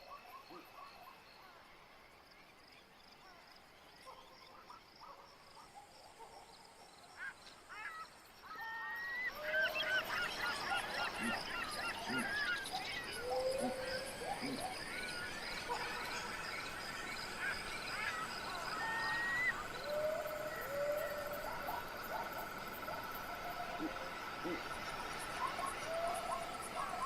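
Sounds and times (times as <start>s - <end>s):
flock of birds calling: 0.0s - 2.1s, 3.2s - 27.0s.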